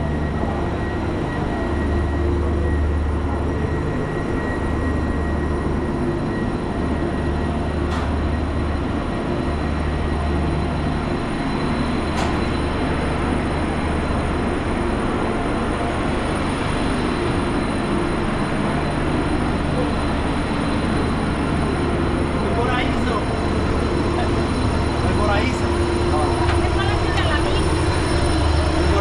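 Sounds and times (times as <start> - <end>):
machinery drone: 0.0 - 29.0.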